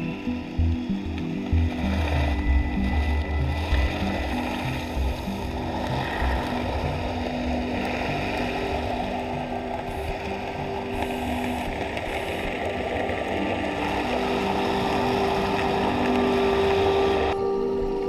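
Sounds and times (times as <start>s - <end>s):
faint held tones: 0.0s - 18.0s
underwater rumble and hiss: 0.0s - 18.0s.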